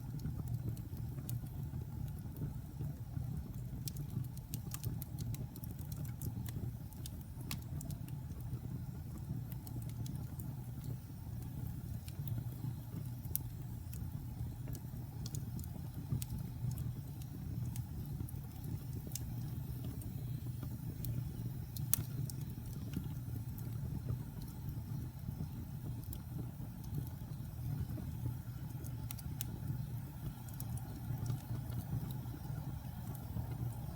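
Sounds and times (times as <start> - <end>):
fire crackling in a fireplace: 0.0 - 33.9.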